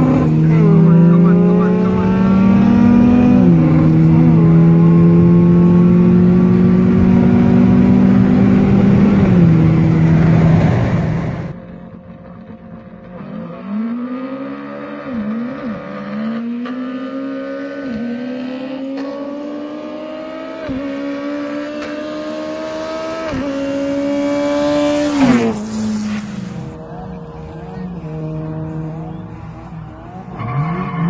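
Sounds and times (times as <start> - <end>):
racing cars accelerating: 0.0 - 31.0.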